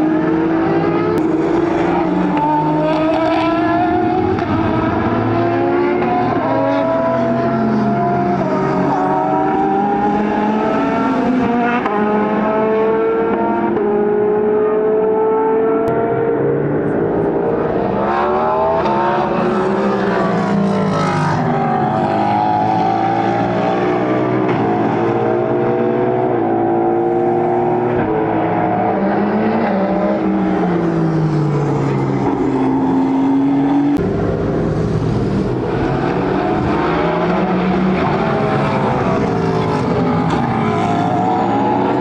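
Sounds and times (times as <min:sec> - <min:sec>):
race cars passing at speed: 0:00.0 - 0:42.0.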